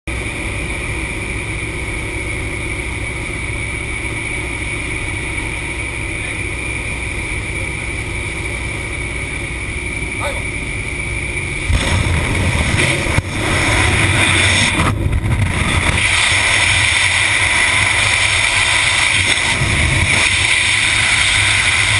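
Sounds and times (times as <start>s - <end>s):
propeller plane engine drone: 0.1s - 21.9s.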